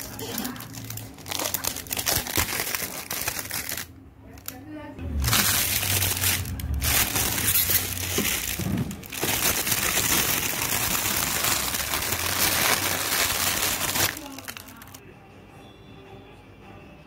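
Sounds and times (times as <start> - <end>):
plastic wrapping crinkling: 0.0 - 4.6, 5.2 - 15.0.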